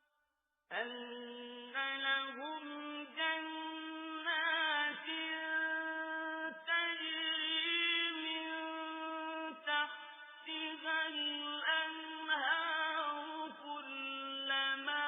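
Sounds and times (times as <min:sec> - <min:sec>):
man chanting melodically: 0:00.8 - 0:15.0.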